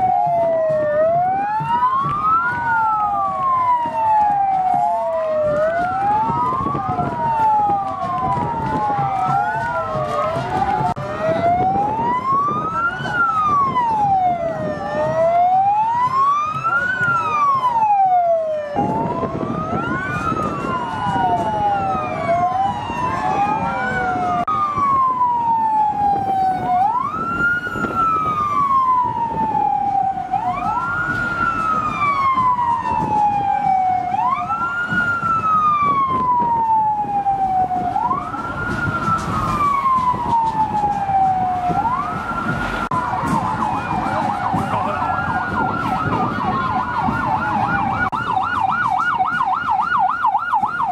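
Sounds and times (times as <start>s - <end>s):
police sirens wailing: 0.0s - 50.9s.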